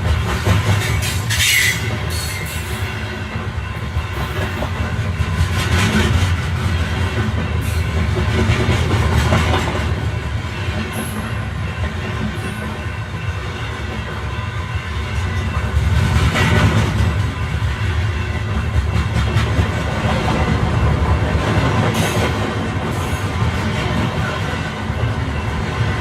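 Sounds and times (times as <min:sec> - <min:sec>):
train rumble with wheel clatter: 0:00.0 - 0:26.0.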